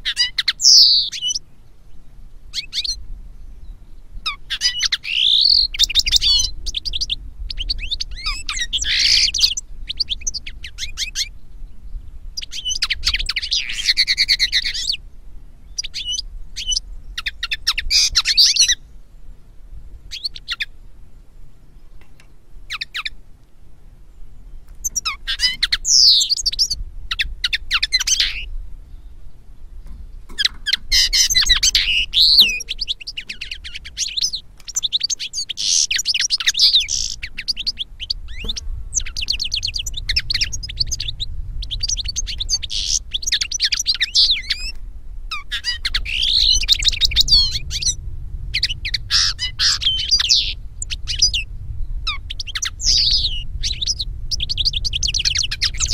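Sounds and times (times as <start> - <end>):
finches twittering and trilling: 0.0 - 1.4, 2.5 - 3.0, 3.6 - 15.0, 15.7 - 18.8, 20.1 - 20.7, 22.0 - 23.2, 24.6 - 55.9.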